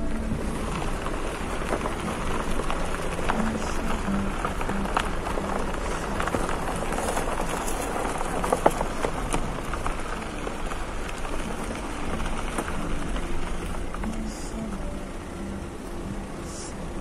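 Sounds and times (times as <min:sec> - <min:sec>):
crackles and clicks: 0:00.0 - 0:17.0
wind buffeting microphone: 0:00.0 - 0:17.0.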